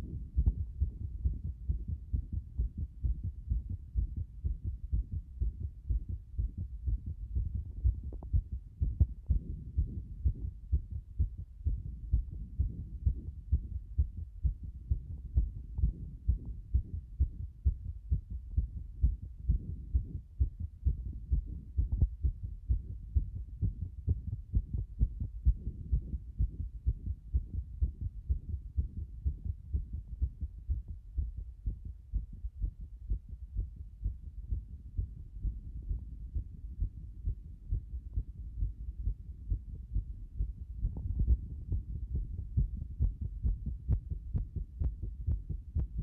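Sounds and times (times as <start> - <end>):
fast heartbeat thumps: 0.0 - 46.0.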